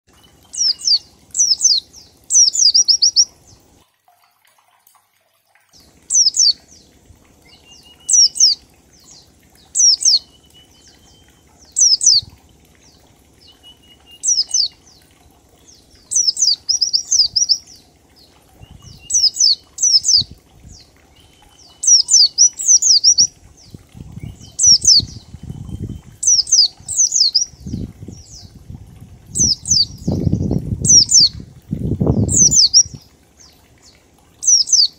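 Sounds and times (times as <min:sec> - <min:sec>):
faint lower trill: 0:05.8 - 0:34.9.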